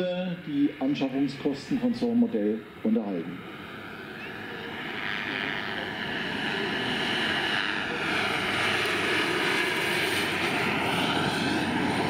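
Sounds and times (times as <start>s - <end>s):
model helicopter turbine and rotor: 0.0s - 12.0s.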